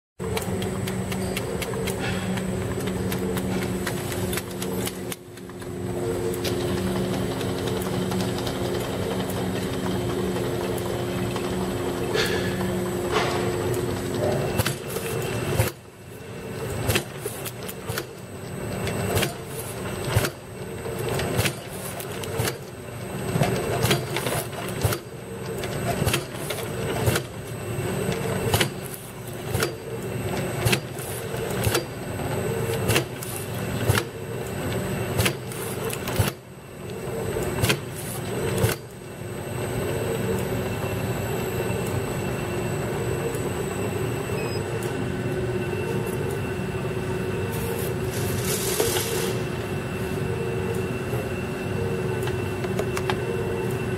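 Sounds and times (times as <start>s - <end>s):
motor and conveyor hum: 0.2s - 53.9s.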